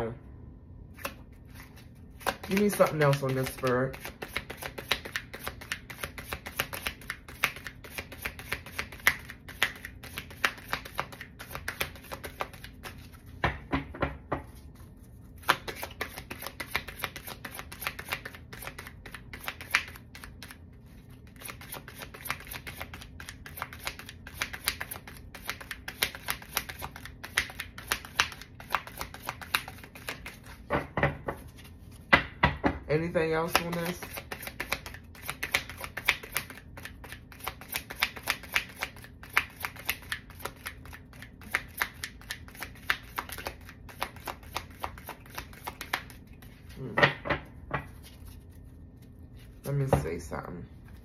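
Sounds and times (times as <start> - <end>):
cards being shuffled: 0.9 - 13.4, 14.4 - 30.7, 31.3 - 32.1, 33.4 - 47.0, 47.9 - 50.0.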